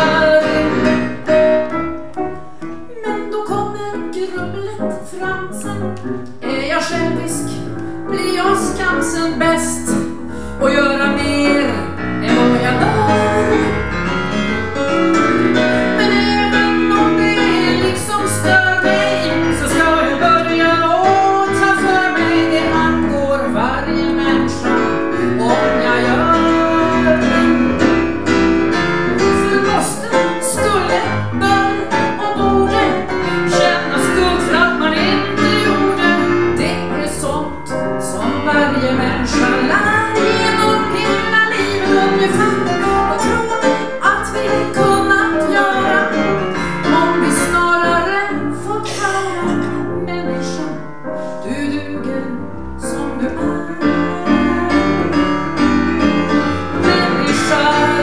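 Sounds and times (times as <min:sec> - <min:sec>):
woman singing into microphone: 0:00.0 - 0:01.2, 0:02.9 - 0:13.9, 0:15.8 - 0:27.6, 0:29.4 - 0:50.8, 0:51.4 - 0:55.3, 0:56.7 - 0:58.0.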